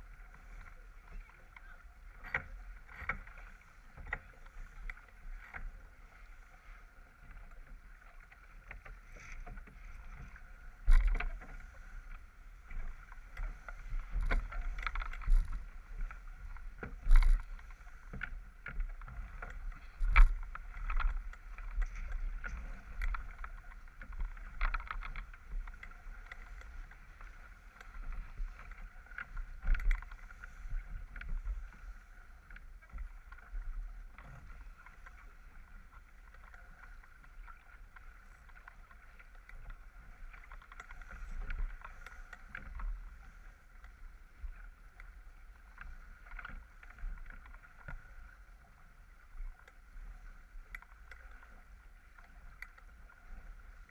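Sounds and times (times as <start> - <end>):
water splashing along boat hull: 0.0 - 53.9.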